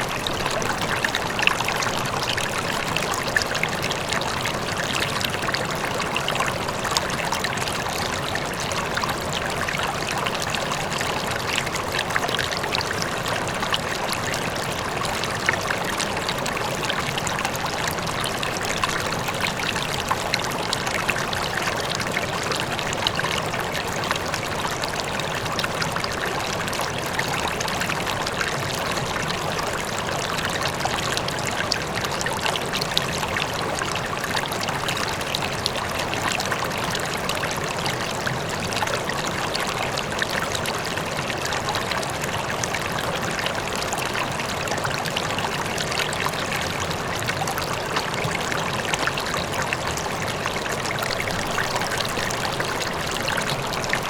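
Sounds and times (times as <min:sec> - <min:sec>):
river flowing over stones: 0:00.0 - 0:54.0
water splashes and gurgles: 0:00.0 - 0:54.0.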